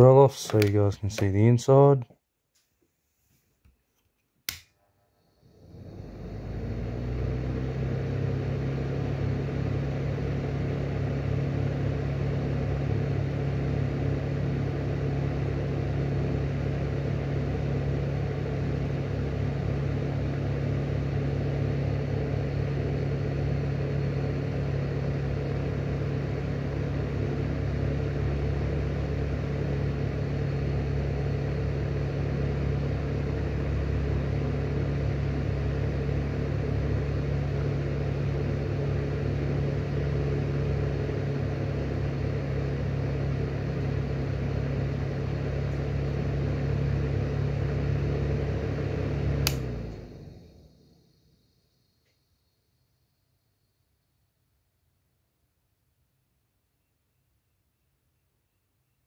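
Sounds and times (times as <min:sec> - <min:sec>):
exhaust fan motor hum: 0:00.0 - 0:02.0, 0:05.4 - 0:52.0.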